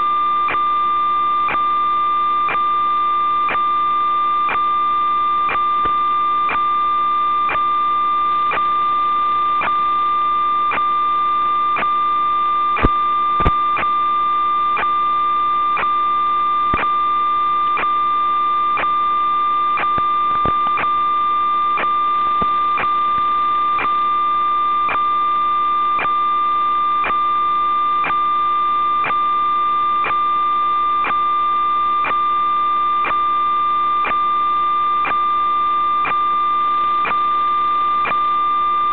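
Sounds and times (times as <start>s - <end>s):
electronic whine: 0.0s - 38.9s.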